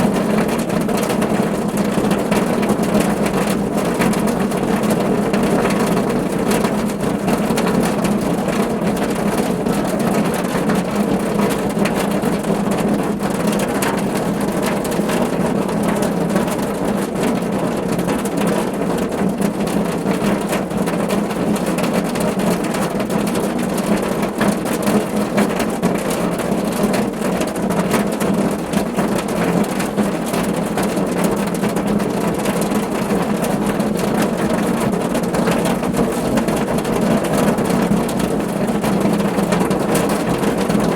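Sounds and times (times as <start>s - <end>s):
rain pattering on a car roof: 0.0s - 40.9s.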